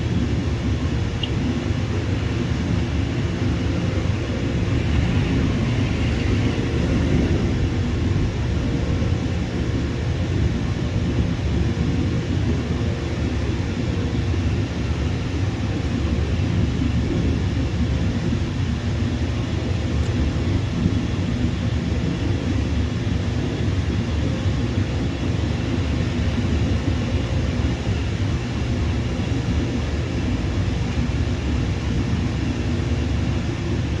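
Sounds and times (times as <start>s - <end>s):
jet engines rumbling: 0.0s - 34.0s.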